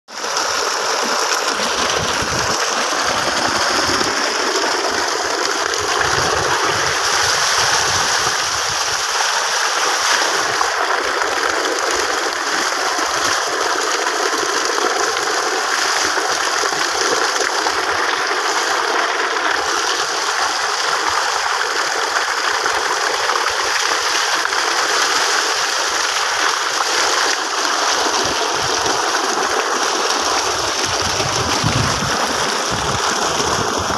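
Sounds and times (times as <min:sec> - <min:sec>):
water rushing along a channel: 0:00.1 - 0:33.9.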